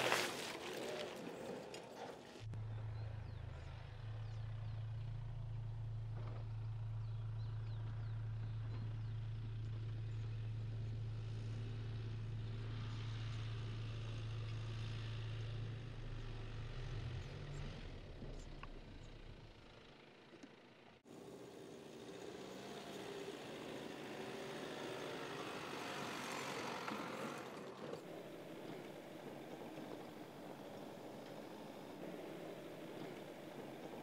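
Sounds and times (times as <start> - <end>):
diesel engine drone in cabin: 2.0 - 34.0.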